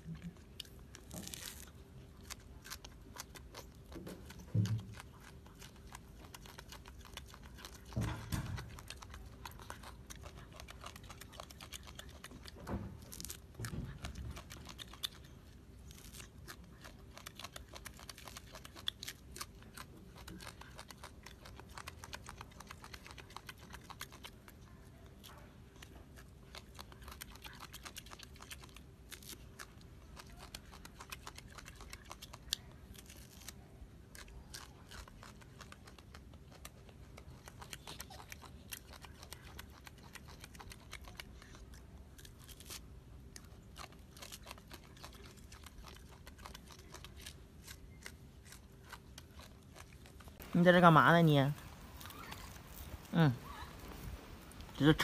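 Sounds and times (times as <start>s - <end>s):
monkey chewing: 0.0s - 55.0s
orange peel tearing: 0.0s - 55.0s.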